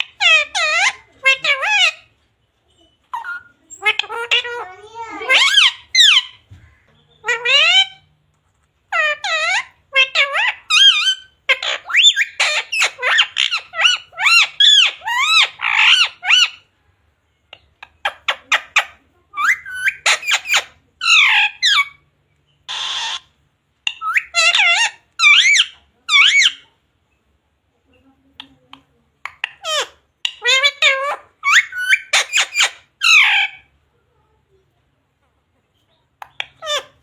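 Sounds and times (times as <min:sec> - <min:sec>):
parrot squawking and chattering: 0:00.0 - 0:16.8, 0:17.4 - 0:26.9, 0:27.8 - 0:34.7, 0:35.7 - 0:37.0.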